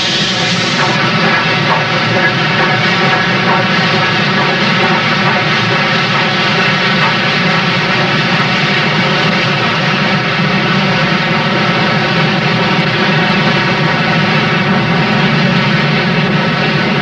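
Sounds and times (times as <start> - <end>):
moving train running noise: 0.0 - 17.0.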